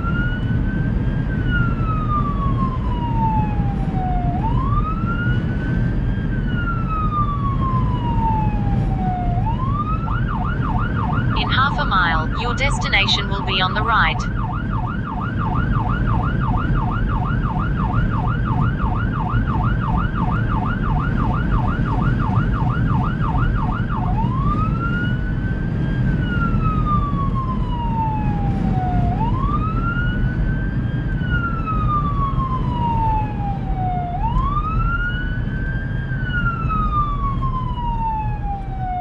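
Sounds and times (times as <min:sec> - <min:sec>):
fire engine siren: 0:00.0 - 0:39.0.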